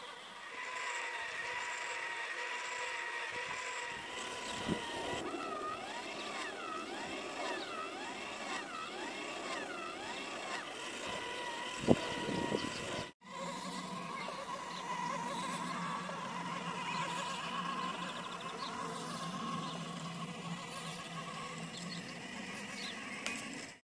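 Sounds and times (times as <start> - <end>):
small electric motors whining: 0.0 - 23.8.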